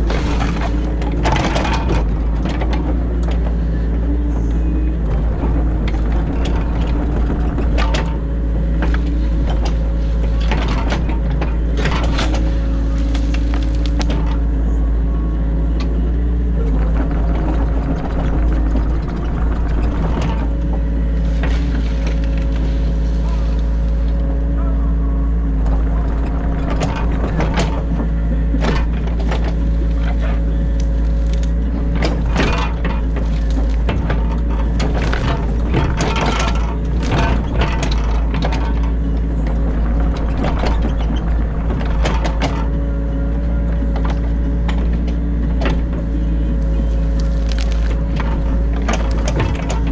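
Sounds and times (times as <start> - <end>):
digging knocks and clatters: 0.0 - 14.8, 15.4 - 24.6, 25.3 - 49.9
excavator diesel engine running: 0.0 - 49.9.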